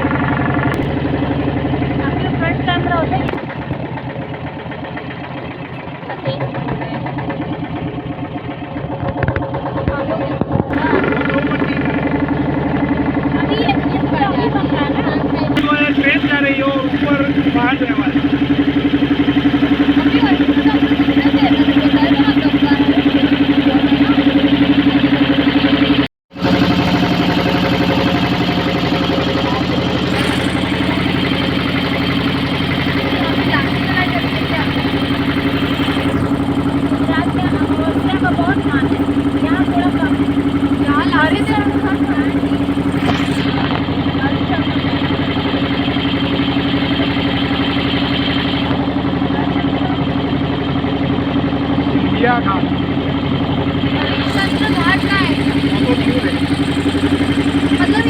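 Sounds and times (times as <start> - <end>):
motorboat engine running: 0.0 - 58.0.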